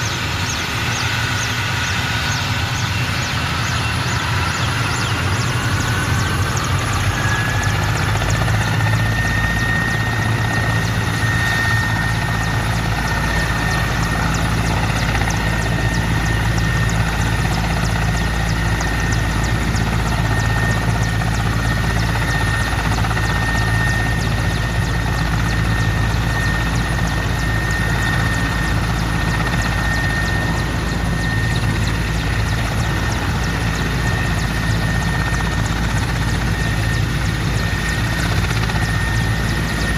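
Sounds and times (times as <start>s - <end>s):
helicopter rotor drone: 0.0s - 39.9s
helicopter turbine whine: 0.0s - 39.9s.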